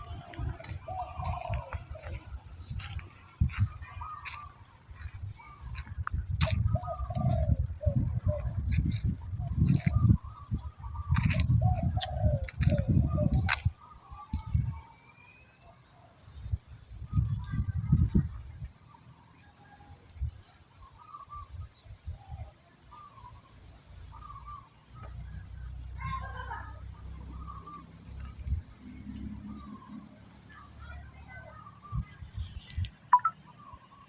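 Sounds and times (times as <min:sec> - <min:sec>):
birds chirping and trilling: 0:00.0 - 0:34.0.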